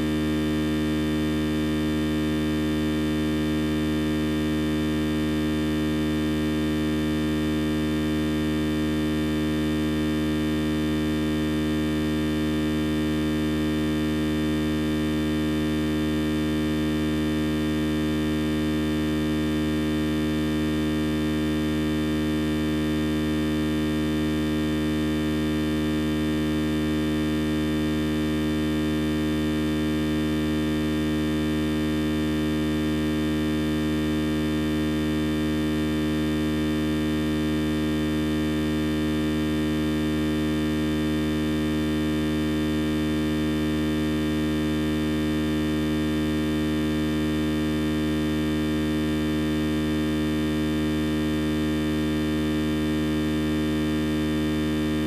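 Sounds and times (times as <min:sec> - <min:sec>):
electrical hum with buzzing: 0:00.0 - 0:55.0.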